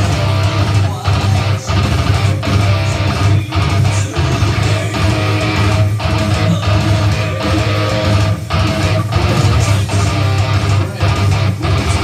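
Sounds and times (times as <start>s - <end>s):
electric guitar: 0.0s - 12.0s.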